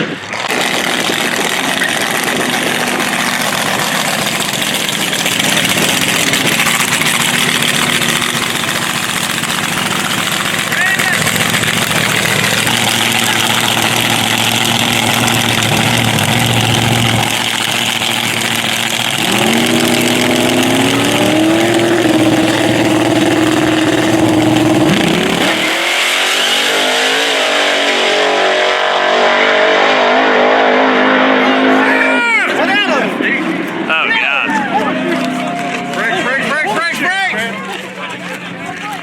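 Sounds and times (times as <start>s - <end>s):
drag racing car engine revving: 0.0s - 39.0s.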